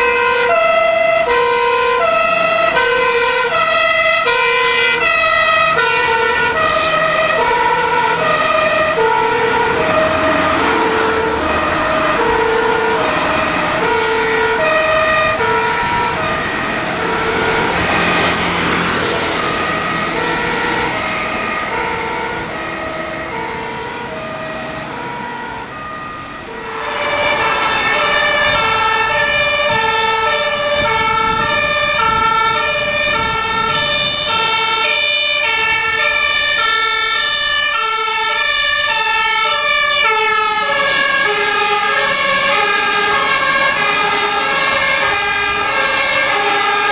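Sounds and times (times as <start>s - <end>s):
fire engine two-tone sirens: 0.0s - 46.9s.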